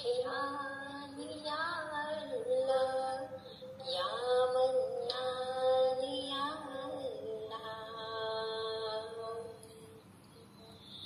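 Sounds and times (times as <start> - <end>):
woman singing a slow chant: 0.0 - 11.0.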